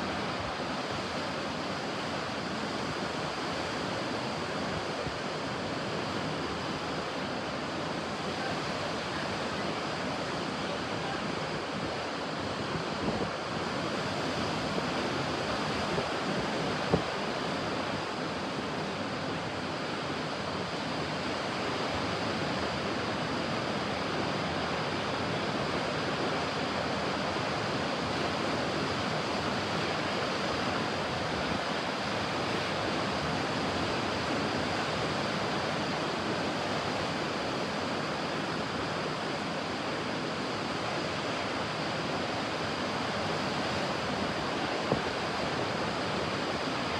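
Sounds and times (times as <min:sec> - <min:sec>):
ocean surf washing: 0:00.0 - 0:46.9.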